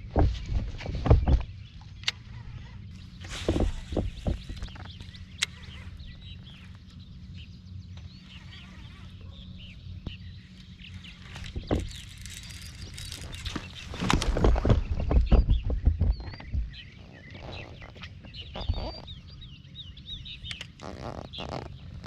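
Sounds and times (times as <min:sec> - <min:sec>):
steady low rumble: 0:00.0 - 0:20.8
small birds chirping: 0:00.0 - 0:22.0.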